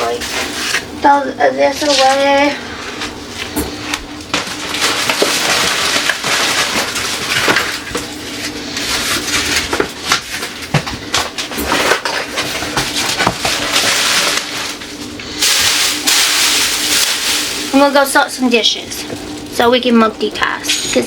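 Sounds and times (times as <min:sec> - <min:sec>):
plastic packaging crinkling: 0:01.7 - 0:19.6.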